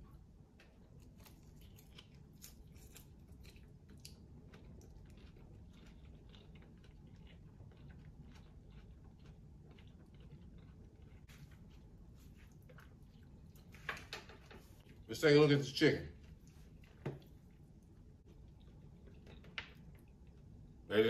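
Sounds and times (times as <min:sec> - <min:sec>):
chewing salad: 0:00.0 - 0:20.9.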